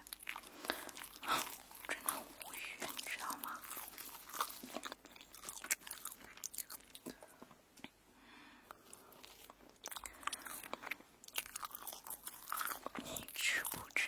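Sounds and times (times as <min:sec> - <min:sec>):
crunchy food being chewed: 0:00.0 - 0:08.0, 0:08.6 - 0:14.0.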